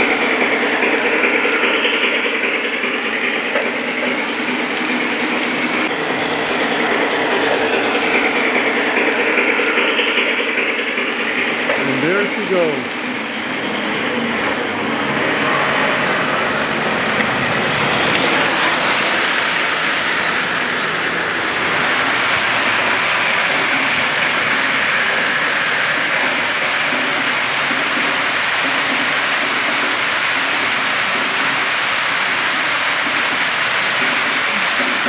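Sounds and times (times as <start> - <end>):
model trains rolling on track: 0.0 - 35.0.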